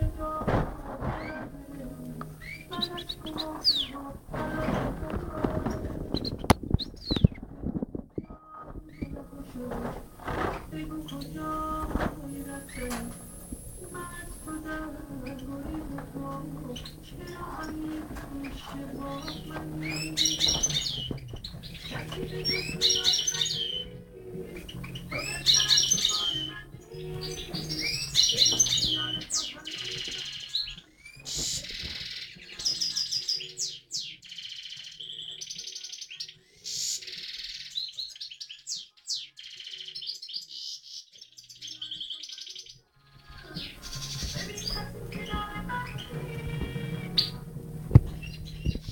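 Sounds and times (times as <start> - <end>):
low backing music: 0.0 - 7.4, 8.1 - 34.3, 43.2 - 48.9
goldfinch twittering: 2.2 - 4.1, 10.6 - 42.7, 43.4 - 48.9.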